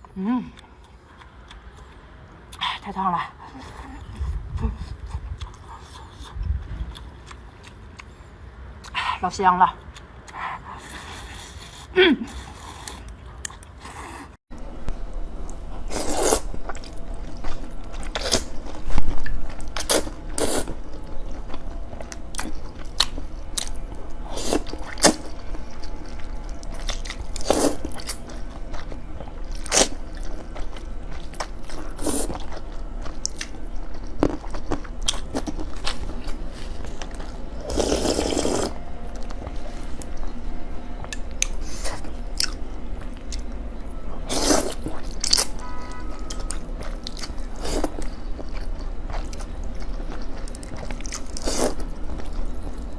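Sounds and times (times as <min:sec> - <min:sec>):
person chewing noodles: 0:00.5 - 0:02.8, 0:03.4 - 0:09.1, 0:09.8 - 0:14.4, 0:15.4 - 0:43.6, 0:44.2 - 0:52.9.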